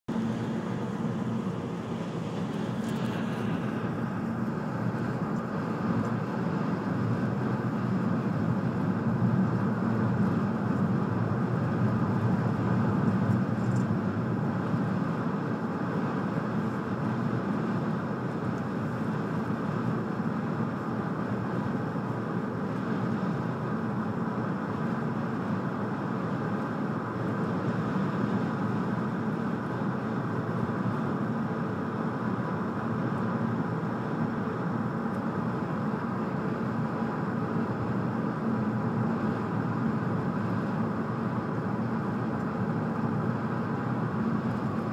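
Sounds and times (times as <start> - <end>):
car road noise: 0.1 - 44.9.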